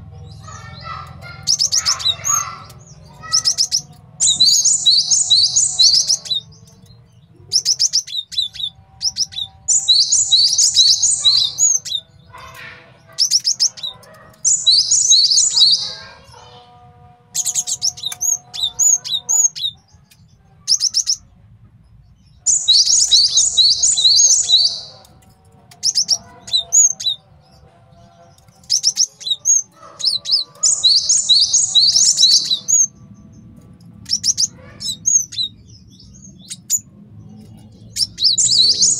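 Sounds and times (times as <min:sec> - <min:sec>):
bird singing high chirps: 0:00.2 - 0:16.5, 0:17.4 - 0:21.2, 0:22.4 - 0:27.3, 0:28.4 - 0:38.9.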